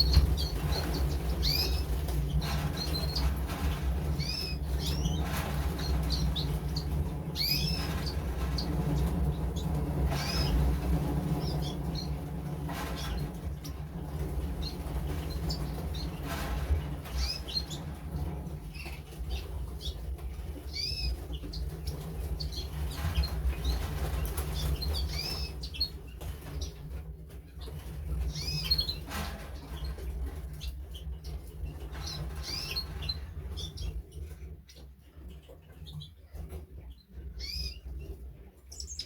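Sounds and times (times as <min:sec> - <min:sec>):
small birds chirping: 0:00.0 - 0:12.4, 0:18.7 - 0:26.9, 0:27.5 - 0:39.0.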